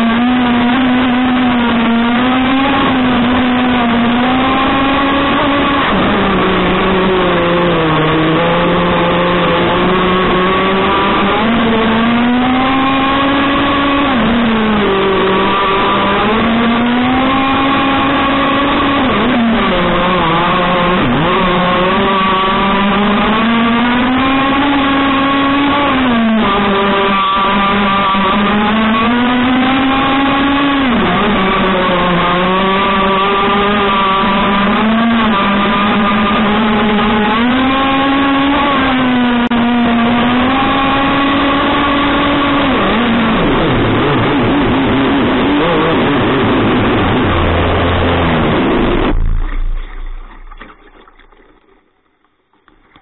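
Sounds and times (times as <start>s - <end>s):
small petrol engine revving: 0.0s - 50.0s.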